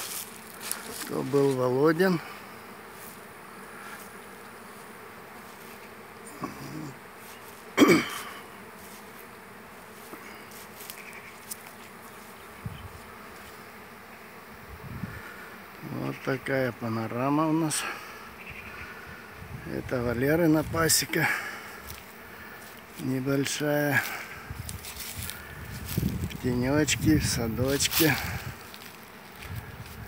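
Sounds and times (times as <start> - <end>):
bee buzzing close by: 0.0 - 30.0
honeybees buzzing: 0.0 - 30.0.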